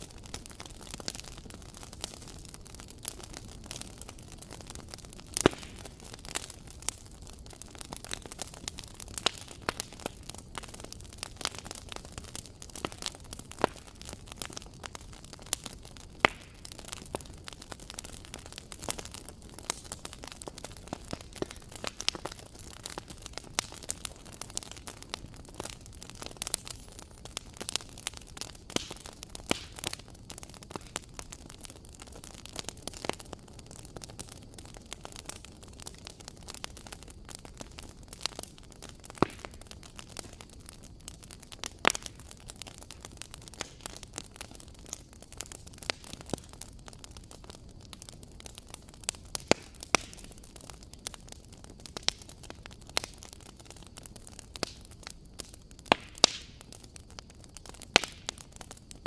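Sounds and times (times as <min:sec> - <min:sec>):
low hiss of flames: 0:00.0 - 0:59.0
wood fire crackling and popping: 0:00.0 - 0:59.0.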